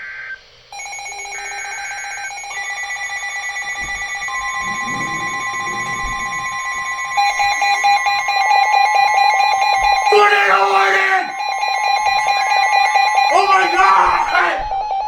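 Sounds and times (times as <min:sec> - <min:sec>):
data burst tone: 0:00.0 - 0:15.0
fast pulsing beep: 0:00.8 - 0:15.0
steady alert tones: 0:00.8 - 0:15.0.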